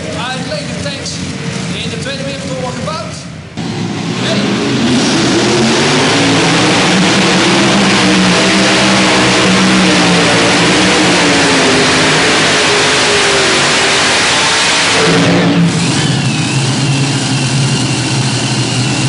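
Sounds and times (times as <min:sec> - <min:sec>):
pulling tractor engine drone: 0:00.0 - 0:19.0.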